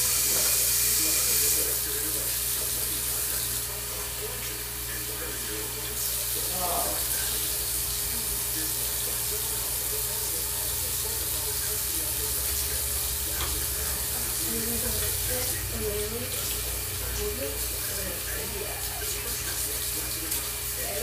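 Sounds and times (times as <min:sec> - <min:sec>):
water running from tap into sink: 0:00.0 - 0:21.0.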